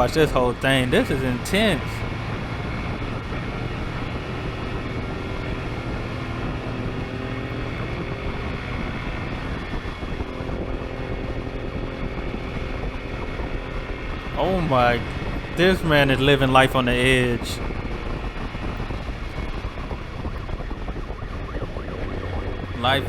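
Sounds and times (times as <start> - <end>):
road noise: 0.0 - 23.0
vehicle engine running: 0.0 - 23.0
wind: 0.0 - 23.0.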